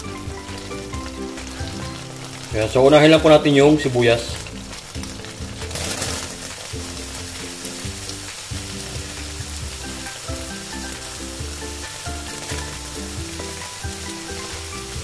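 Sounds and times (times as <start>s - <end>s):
background music: 0.0s - 15.0s
onions sizzling in hot oil: 0.0s - 15.0s.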